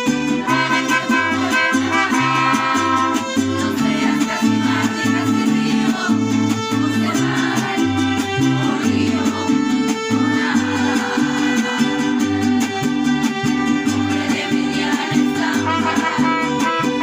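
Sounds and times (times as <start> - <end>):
strummed guitars: 0.0 - 17.0
violins playing melody: 0.0 - 17.0.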